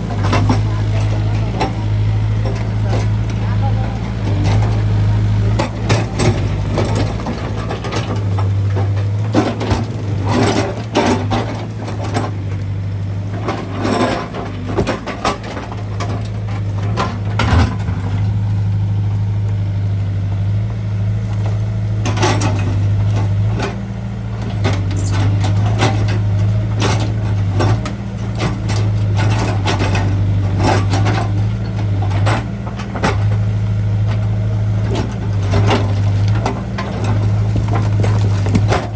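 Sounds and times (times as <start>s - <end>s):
digging gear clanks and knocks: 0.0s - 18.4s, 20.5s - 38.9s
diesel engine humming: 0.0s - 38.9s.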